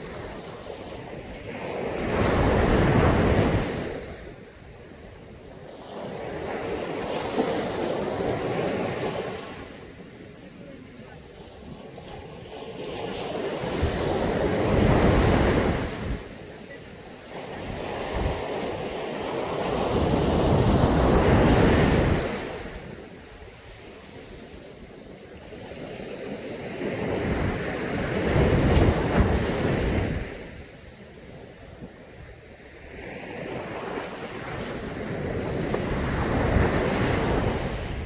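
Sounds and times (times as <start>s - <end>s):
sea waves breaking on a beach: 0.0s - 38.0s.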